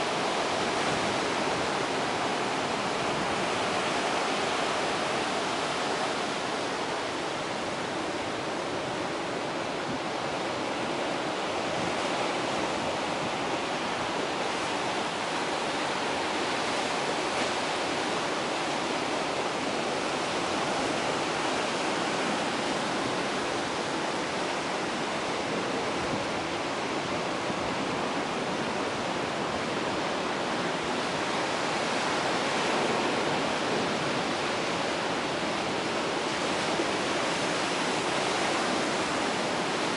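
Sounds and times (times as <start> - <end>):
surf washing over rocky shore: 0.0 - 39.9.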